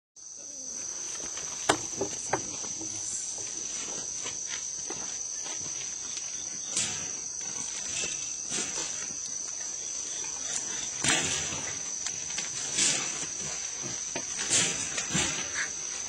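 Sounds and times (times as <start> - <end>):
high-pitched insect chorus: 0.2 - 16.0
rustles: 0.2 - 16.0.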